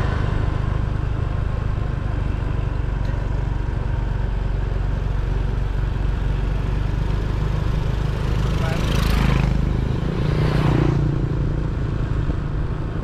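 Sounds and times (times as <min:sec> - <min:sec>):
road and vehicle noise: 0:00.0 - 0:13.0.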